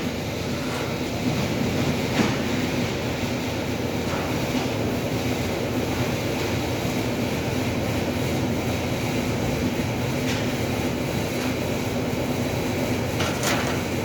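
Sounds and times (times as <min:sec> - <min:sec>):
mechanical hum and rumble: 0:00.0 - 0:14.0.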